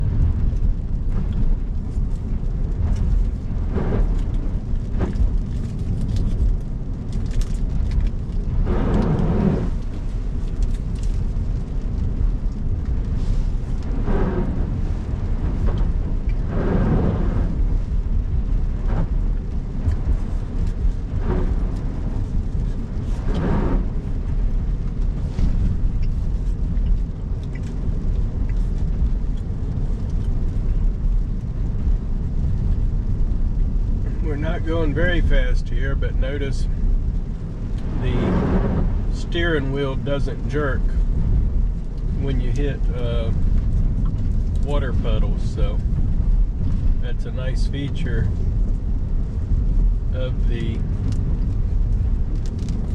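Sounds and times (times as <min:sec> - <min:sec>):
tyres rumbling on wet road: 0:00.0 - 0:52.9.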